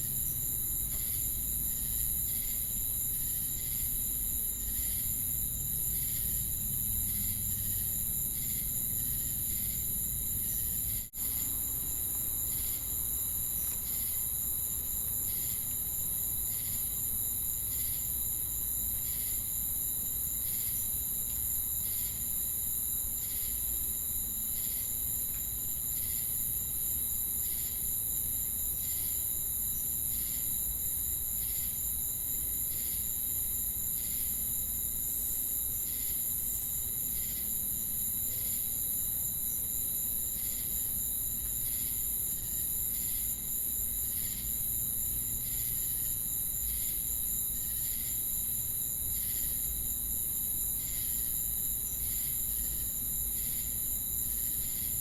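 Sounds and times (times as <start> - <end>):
crickets and cicadas trilling: 0.0 - 55.0.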